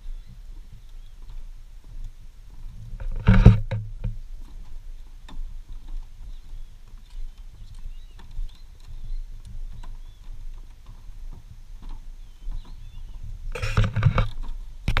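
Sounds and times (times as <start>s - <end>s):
birds chirping faintly: 0.0s - 2.8s, 4.2s - 15.0s
footsteps on wooden planks: 0.0s - 15.0s.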